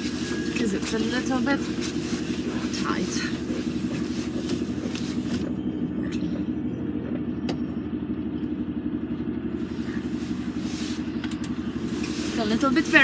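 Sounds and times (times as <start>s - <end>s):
diesel lorry engine running: 0.0s - 13.0s.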